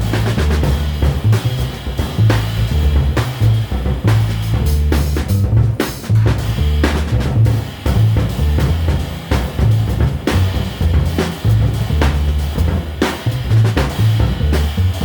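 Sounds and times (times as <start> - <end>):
drum kit playing: 0.0 - 15.0
plucked double bass: 0.0 - 15.0.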